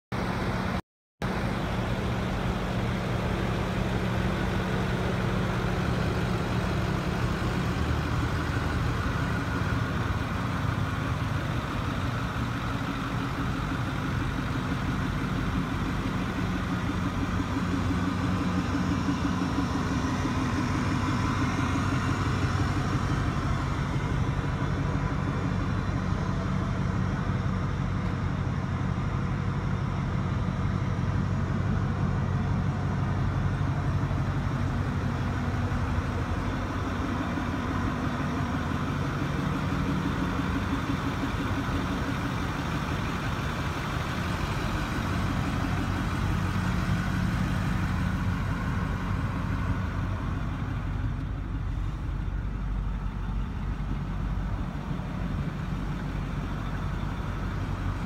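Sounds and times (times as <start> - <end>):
truck engine idling: 0.1 - 58.0.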